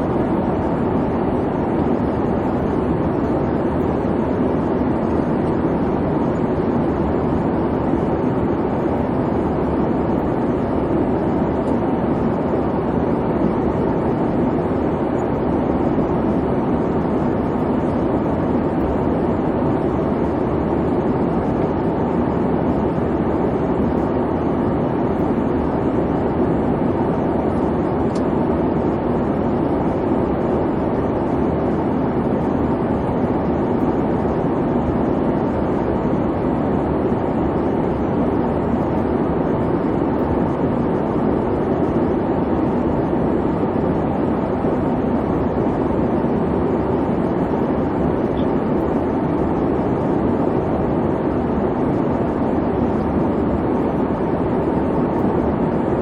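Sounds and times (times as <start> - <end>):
jet engine and airflow rumble: 0.0 - 56.0.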